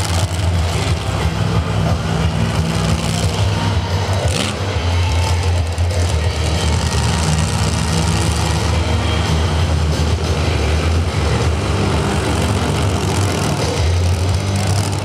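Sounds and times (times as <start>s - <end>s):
truck engine deep rumble: 0.0s - 15.0s.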